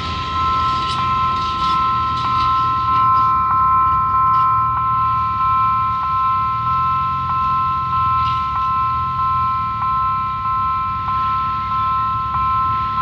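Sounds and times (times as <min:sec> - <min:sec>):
crossing bell two-tone ding: 0:00.0 - 0:13.0.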